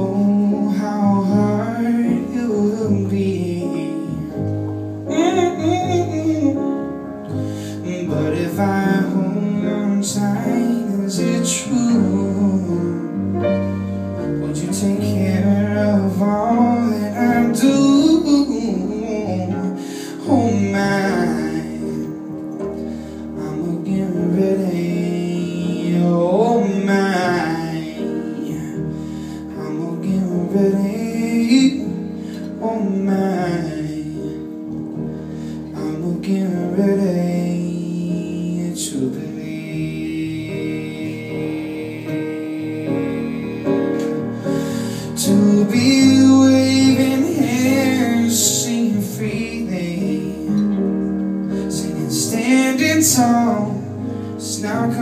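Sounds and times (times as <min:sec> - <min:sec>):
person singing: 0:00.0 - 0:55.0
piano and band accompaniment: 0:00.0 - 0:55.0.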